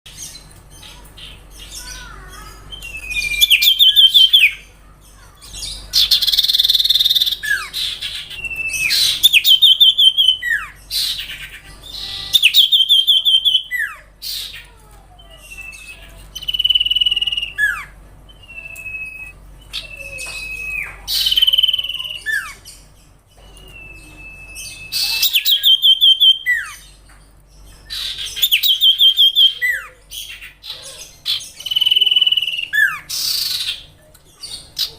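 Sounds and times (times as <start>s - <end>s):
songbird singing: 0.1s - 34.9s.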